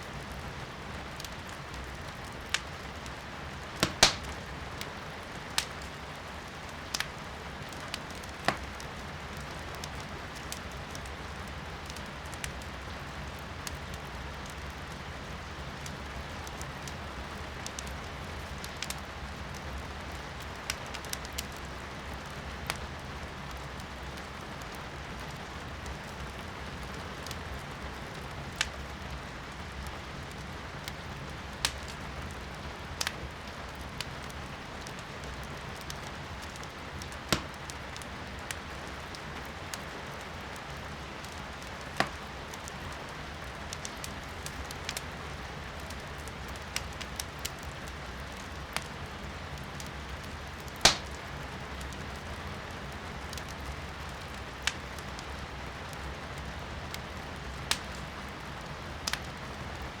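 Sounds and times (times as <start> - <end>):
firewood crackling and popping: 0.1 - 60.0.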